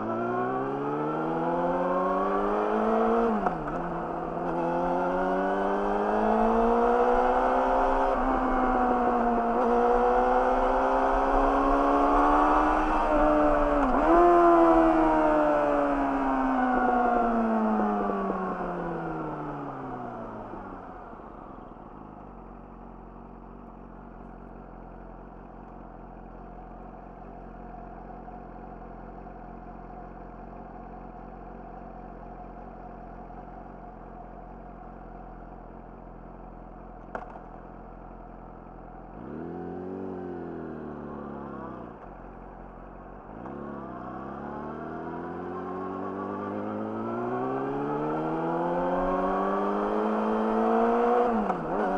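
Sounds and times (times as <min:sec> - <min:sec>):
motorcycle engine: 0:00.1 - 0:26.8, 0:36.4 - 0:51.9.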